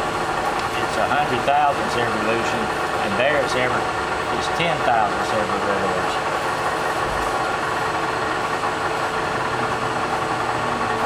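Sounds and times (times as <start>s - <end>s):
lathe machine hum: 0.0s - 11.0s.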